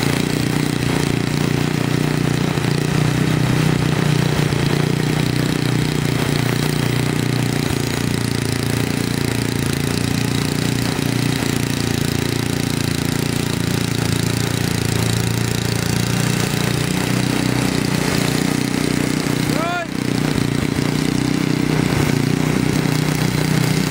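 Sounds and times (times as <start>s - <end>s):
snowblower engine running: 0.0s - 23.9s.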